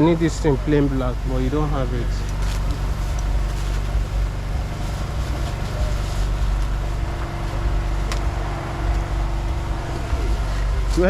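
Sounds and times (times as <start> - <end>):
low engine-like drone: 0.0 - 11.0.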